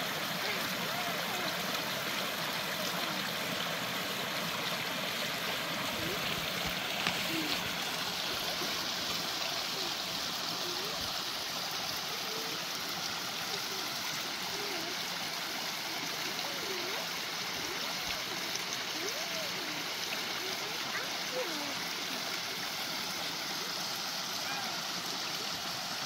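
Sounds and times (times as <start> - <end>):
stream rushing over rocks: 0.0 - 26.0
water gurgling: 0.0 - 26.0.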